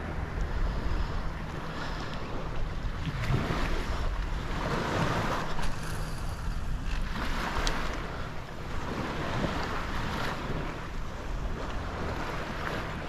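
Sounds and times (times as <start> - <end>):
small waves washing: 0.0 - 13.0
wind on microphone: 0.0 - 13.0.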